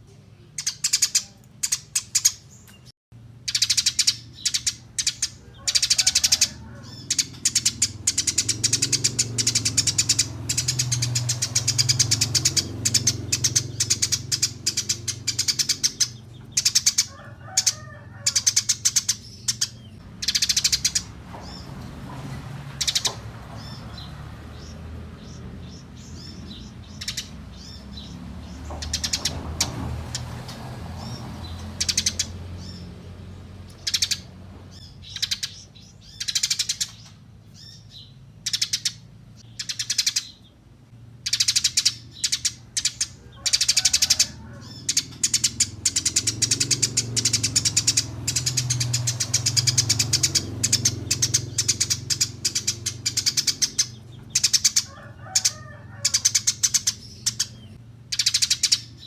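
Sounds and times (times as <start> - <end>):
sparrow chirping: 0.0 - 59.0.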